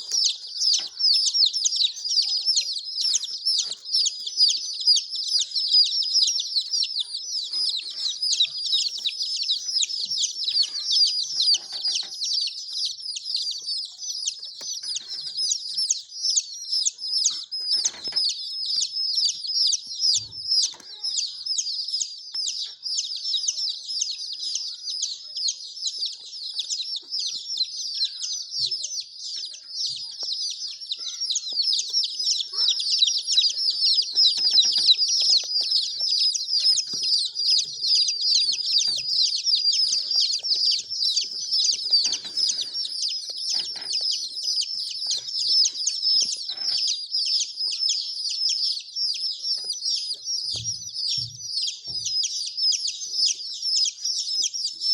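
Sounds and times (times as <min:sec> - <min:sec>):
baby chicks peeping: 0:00.0 - 0:54.9.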